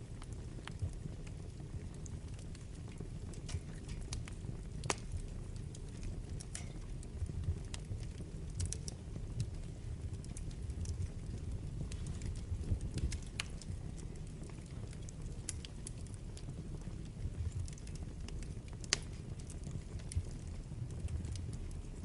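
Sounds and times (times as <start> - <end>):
burning logs crackling and popping: 0.0 - 22.0
fire flames rumbling: 0.0 - 22.0.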